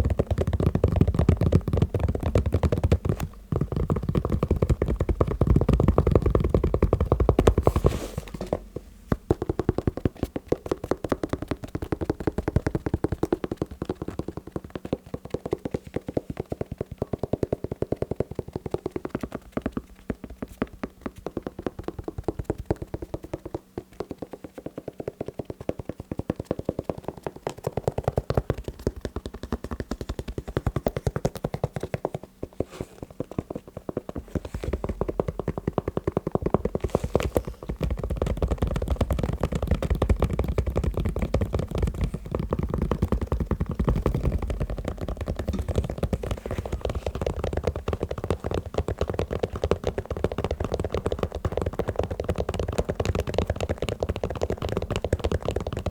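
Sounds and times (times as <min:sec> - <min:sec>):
rapid tapping on a shoe: 0:00.0 - 0:55.9.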